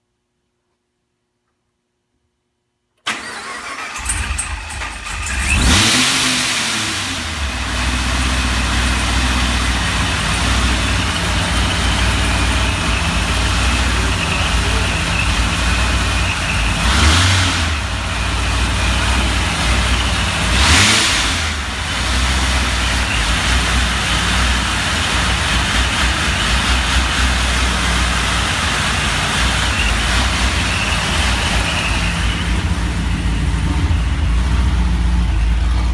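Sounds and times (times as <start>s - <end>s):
car engine starting and idling: 3.0s - 35.9s
car engine revving: 3.2s - 35.9s.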